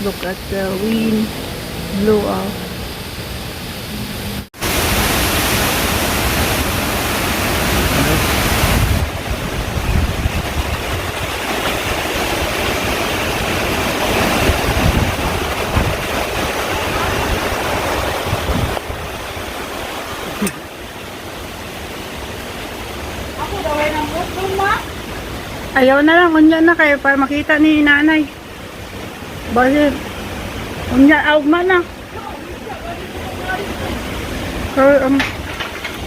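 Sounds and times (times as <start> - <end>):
strong wind buffeting microphone: 6.2 - 36.0.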